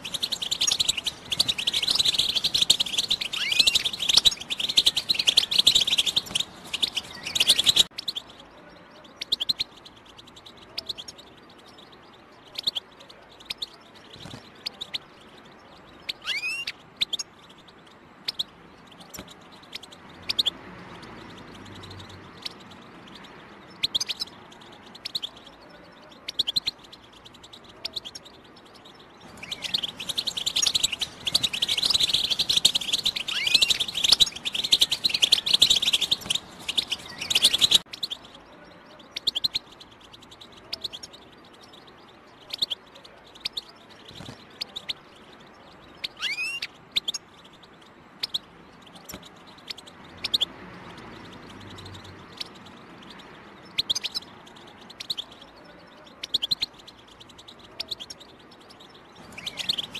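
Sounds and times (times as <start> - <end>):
bird chirping: 0.0 - 59.9
bird twittering song: 0.0 - 59.9.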